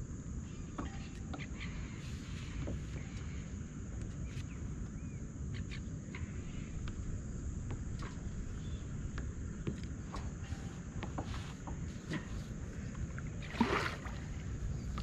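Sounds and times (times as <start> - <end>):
low rumble on open water: 0.0 - 15.0.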